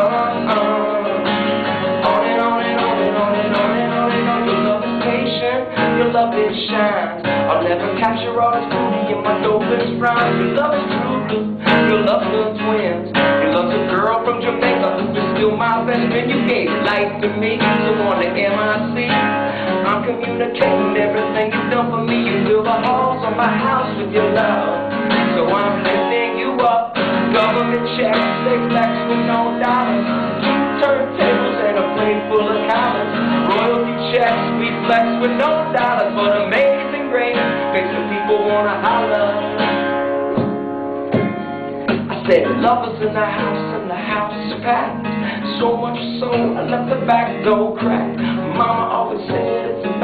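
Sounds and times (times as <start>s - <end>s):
acoustic guitar strumming: 0.0s - 50.0s
man singing: 0.0s - 50.0s.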